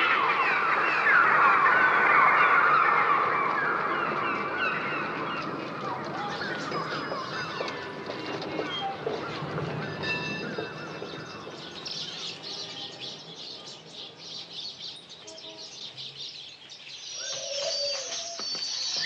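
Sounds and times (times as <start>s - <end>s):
small birds chirping and twittering: 0.0s - 19.0s.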